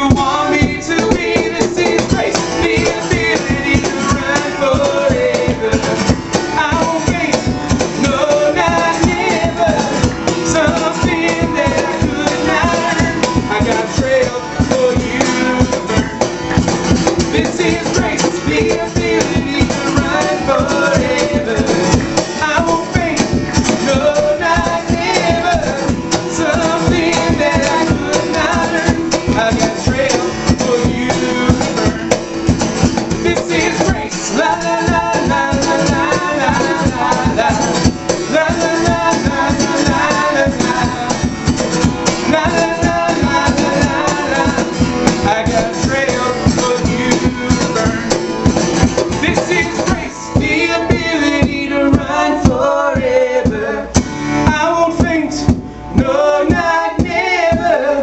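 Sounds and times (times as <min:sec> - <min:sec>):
person singing: 0:00.0 - 0:16.4, 0:17.0 - 0:58.0
acoustic guitar: 0:00.0 - 0:58.0
cajon beat: 0:00.0 - 0:58.0.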